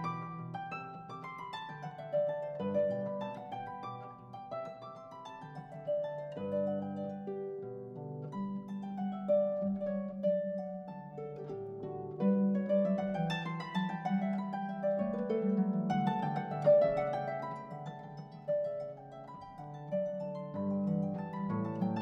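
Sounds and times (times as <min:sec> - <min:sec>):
harp-like plucked-string melody: 0:00.0 - 0:22.0.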